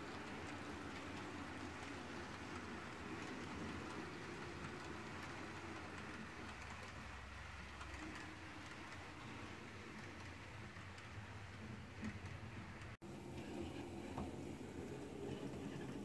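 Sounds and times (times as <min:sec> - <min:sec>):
model train wheels rattling: 0:00.0 - 0:13.0.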